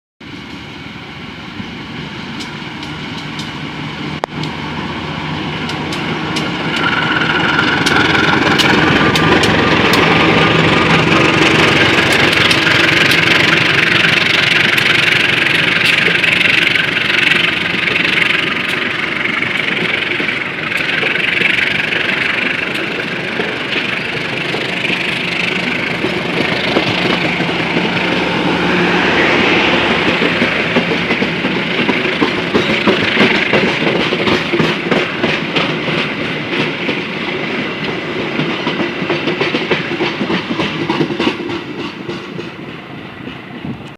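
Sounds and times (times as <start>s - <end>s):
diesel locomotive engine: 0.2s - 43.9s.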